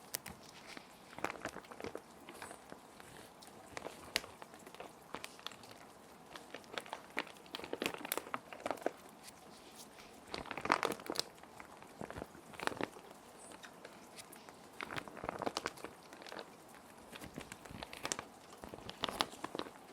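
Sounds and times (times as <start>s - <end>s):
plastic sheet protectors crinkling: 0.0s - 19.9s.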